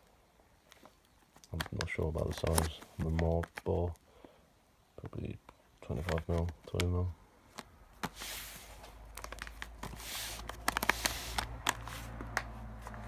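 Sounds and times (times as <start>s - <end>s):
packaging crinkling and rustling: 0.6s - 4.0s, 5.8s - 13.0s.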